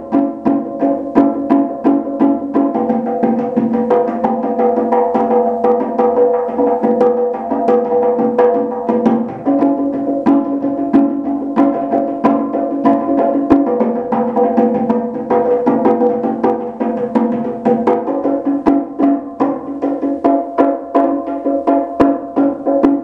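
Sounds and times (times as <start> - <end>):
bongo drums played by hand: 0.0 - 23.0.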